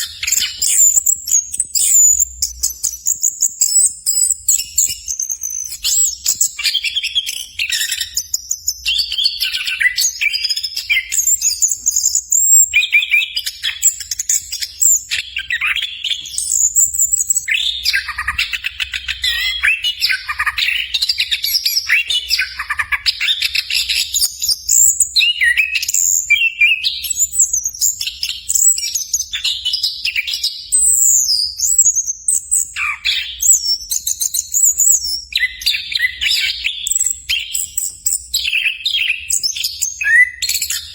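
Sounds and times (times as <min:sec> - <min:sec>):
thrush singing trills and whistles: 0:00.0 - 0:40.9.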